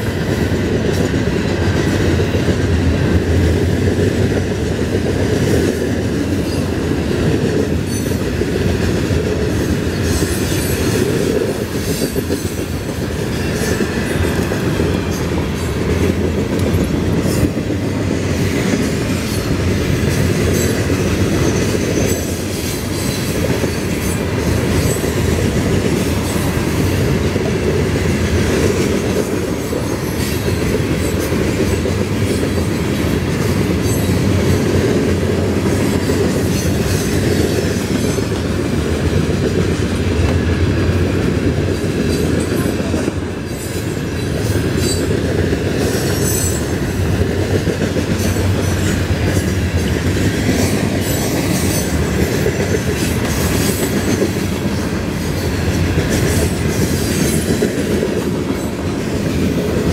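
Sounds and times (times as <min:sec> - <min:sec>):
freight cars rumbling on rails: 0:00.0 - 0:59.9
wheels clacking over rail joints: 0:00.0 - 0:59.9.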